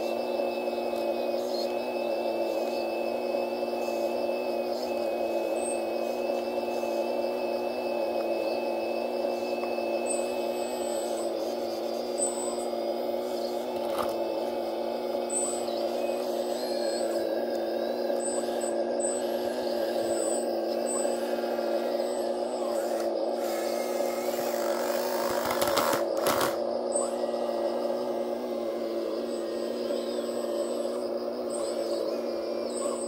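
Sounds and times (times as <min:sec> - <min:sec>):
model excavator pump motor whine: 0:00.0 - 0:33.0.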